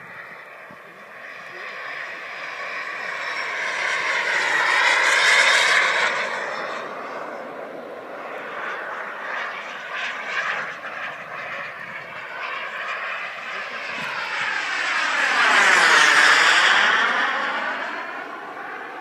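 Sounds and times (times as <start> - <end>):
model jet engine whine: 0.0 - 19.0.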